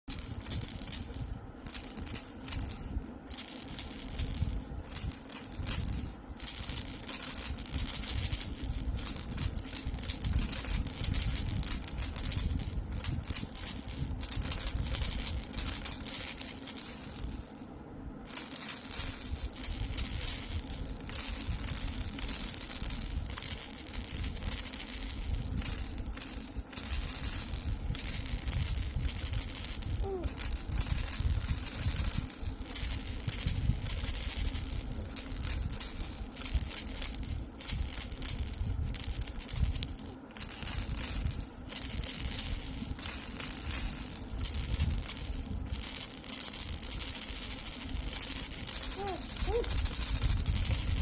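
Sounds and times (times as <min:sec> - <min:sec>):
baby rattle shaken: 0:00.0 - 0:17.6, 0:18.2 - 0:51.0.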